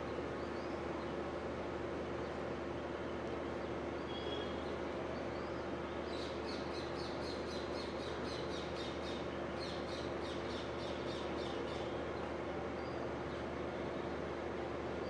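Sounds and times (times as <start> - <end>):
steady hum and hiss: 0.0 - 15.0.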